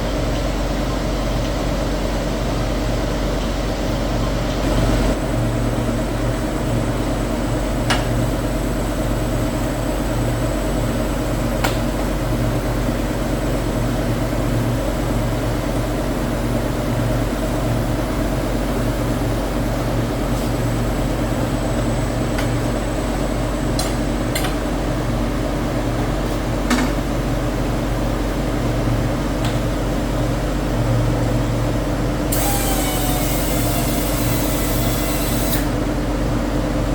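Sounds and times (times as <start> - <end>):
factory machinery drone: 0.0 - 36.9.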